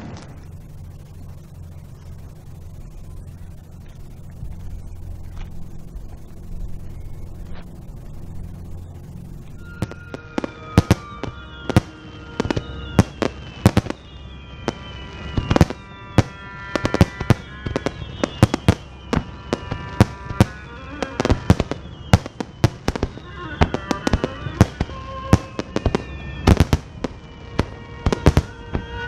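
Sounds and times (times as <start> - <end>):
fireworks bangs: 0.0 - 29.0
fireworks whistles: 0.0 - 29.0.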